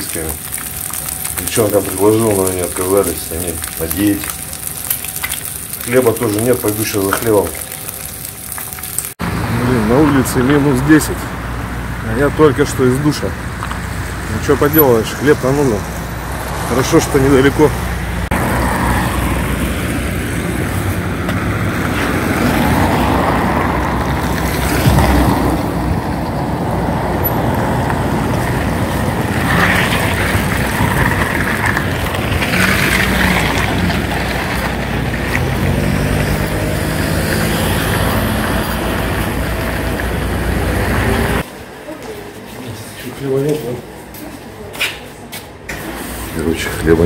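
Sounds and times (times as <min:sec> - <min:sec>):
cars passing: 0:00.0 - 0:41.8
motor vehicles rumbling: 0:00.0 - 0:47.0.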